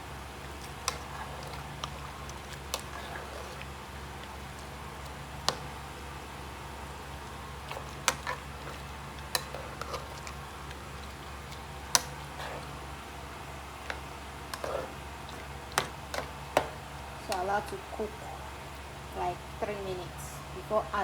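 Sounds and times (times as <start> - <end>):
low hum of soup cooking: 0.0 - 21.0.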